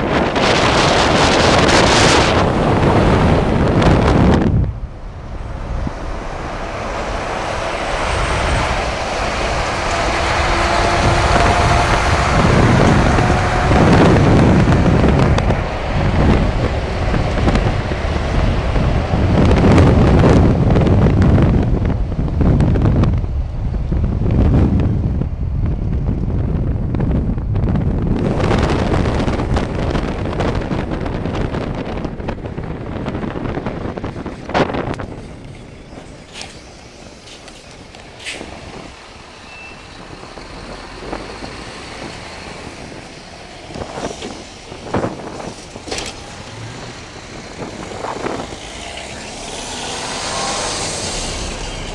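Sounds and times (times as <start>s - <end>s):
diesel engine running: 0.0s - 51.9s
wind buffeting microphone: 0.0s - 51.9s.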